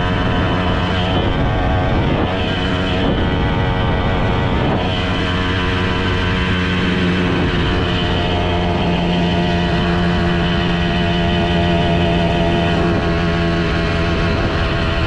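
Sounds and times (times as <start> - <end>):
moped engine at high revs: 0.0 - 15.0.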